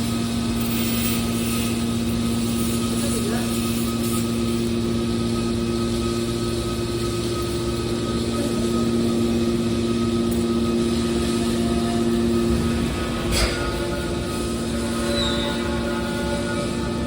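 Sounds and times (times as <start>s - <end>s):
baler machinery humming: 0.0s - 17.0s.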